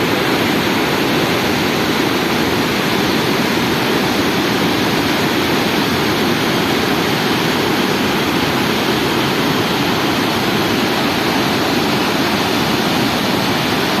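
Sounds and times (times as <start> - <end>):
water rushing over dam spillway: 0.0 - 14.0.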